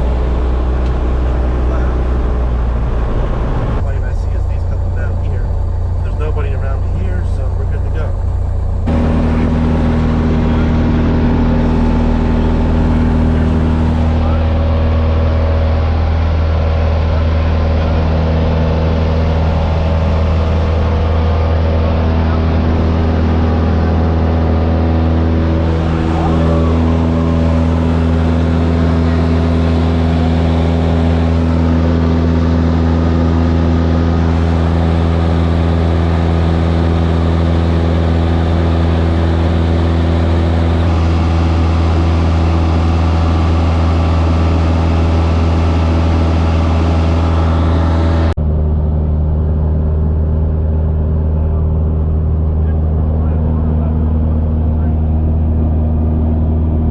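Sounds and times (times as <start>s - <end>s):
propeller airplane engine in cabin: 0.0s - 56.9s.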